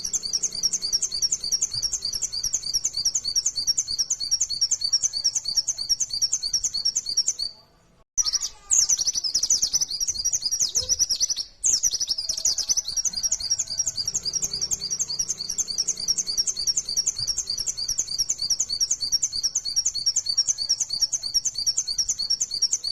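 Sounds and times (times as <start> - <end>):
bird singing high chirping notes: 0.0 - 7.6, 8.2 - 22.9.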